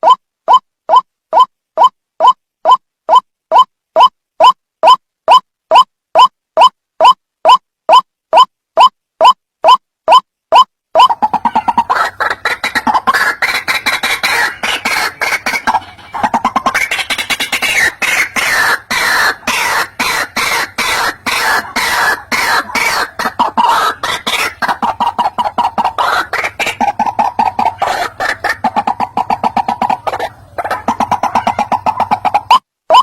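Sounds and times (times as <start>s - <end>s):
bird calling harsh repeated notes: 0.0s - 33.0s.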